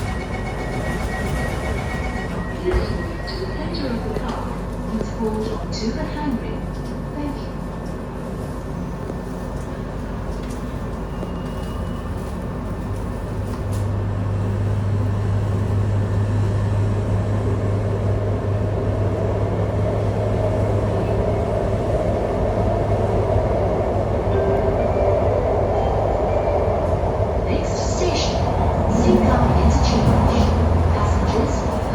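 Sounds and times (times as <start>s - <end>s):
train running rumble: 0.0s - 31.9s.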